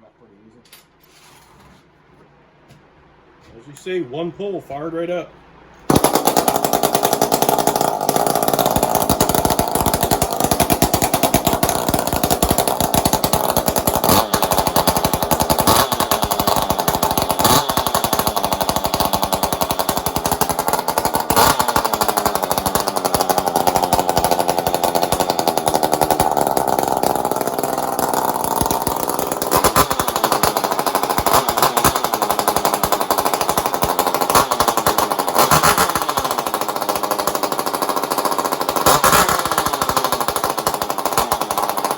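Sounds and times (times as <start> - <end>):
chainsaw revving: 5.8 - 41.9.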